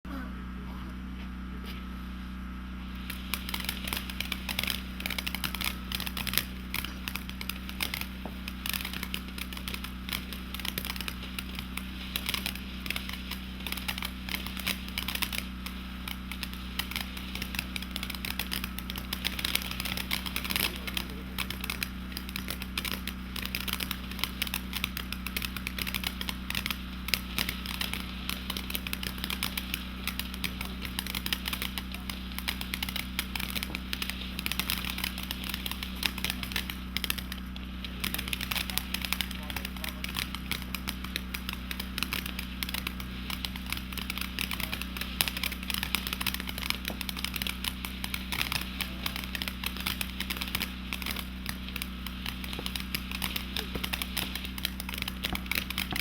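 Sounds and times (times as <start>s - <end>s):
firework fountain crackling: 2.2s - 56.0s.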